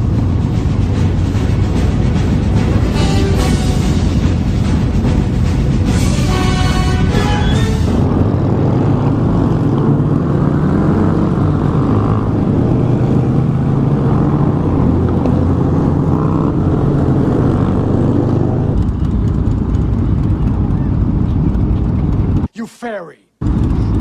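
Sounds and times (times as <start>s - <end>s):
motorcycle engine running: 0.0s - 22.5s, 23.4s - 24.0s.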